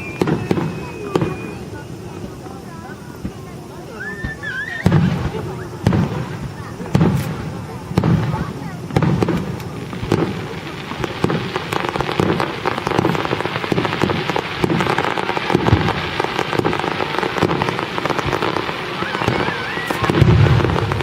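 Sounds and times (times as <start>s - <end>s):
fireworks burst thuds: 0.0s - 21.0s
fireworks crackling: 0.0s - 21.0s.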